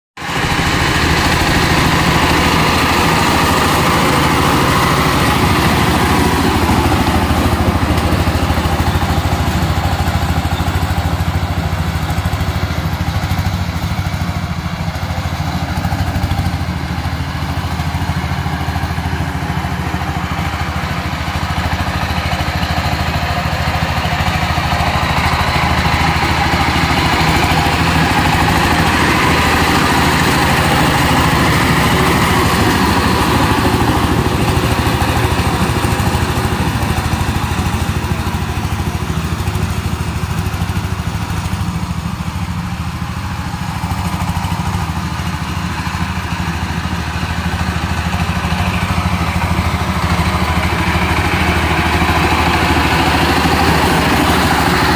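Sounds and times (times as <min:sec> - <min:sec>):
diesel power tiller engine: 0:00.2 - 0:54.9
rotary tiller churning soil: 0:00.2 - 0:54.9.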